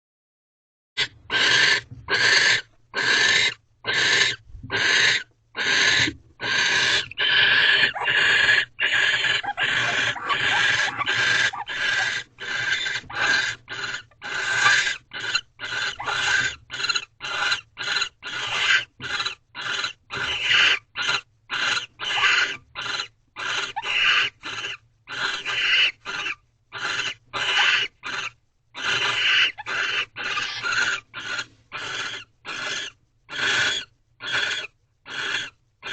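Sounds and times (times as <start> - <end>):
owls rasping hissing calls: 1.0 - 35.9.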